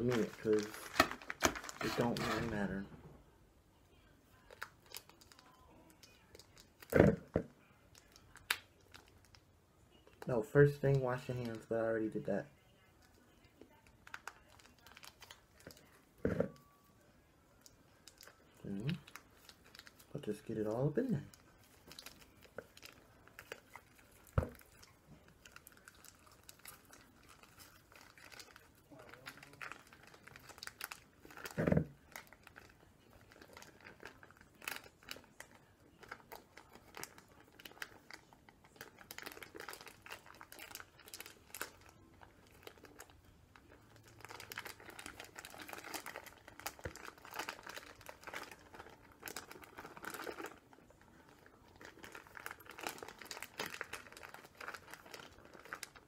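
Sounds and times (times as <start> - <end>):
plastic packaging crinkling: 0.0 - 2.9, 4.3 - 9.4, 10.2 - 12.6, 13.2 - 16.8, 17.5 - 56.0.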